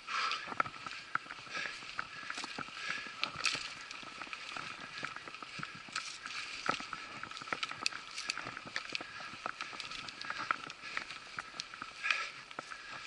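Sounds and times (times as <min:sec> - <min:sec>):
bike clicks and rattles: 0:00.0 - 0:13.0
bike tyres on dirt: 0:00.0 - 0:13.0.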